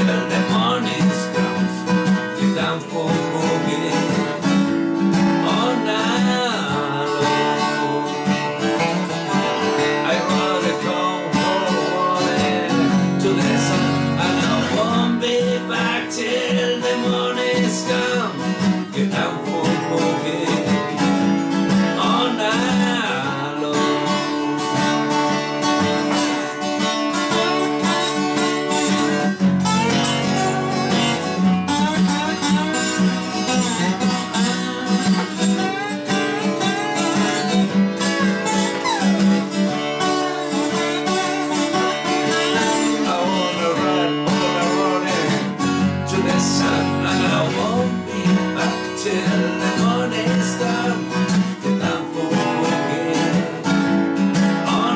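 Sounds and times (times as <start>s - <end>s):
acoustic guitars strumming: 0.0s - 54.9s
man singing: 0.0s - 54.9s.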